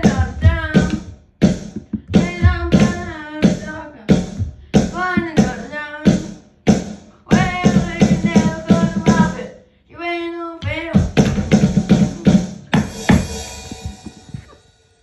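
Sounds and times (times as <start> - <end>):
song with singing voice: 0.0 - 6.4, 7.1 - 14.6.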